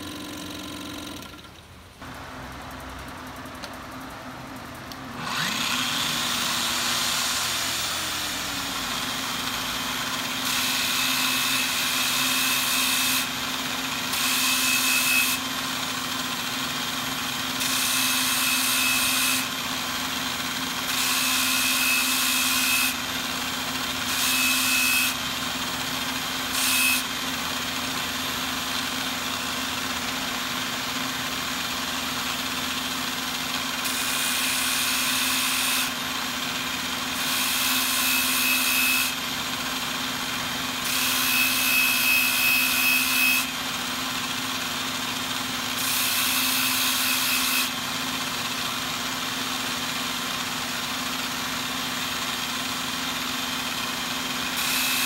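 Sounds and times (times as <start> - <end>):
angle grinder running: 0.0 - 4.0, 4.9 - 55.0.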